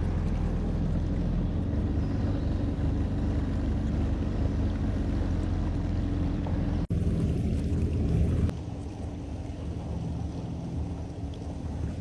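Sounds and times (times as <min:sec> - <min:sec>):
watercraft engine running: 0:00.0 - 0:12.0.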